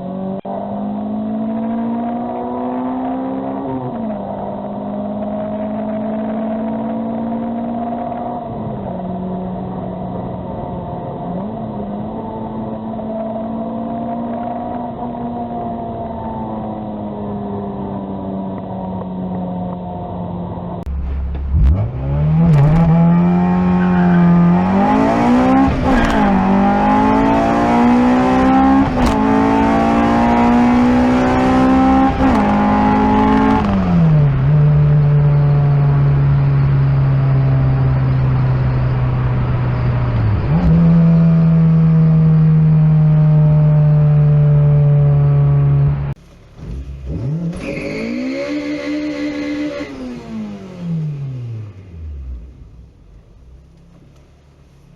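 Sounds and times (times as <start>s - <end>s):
car engine accelerating: 0.0s - 54.9s.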